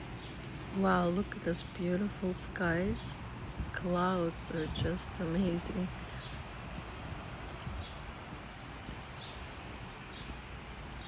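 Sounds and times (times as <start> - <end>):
seaside ambient noise: 0.0 - 11.0.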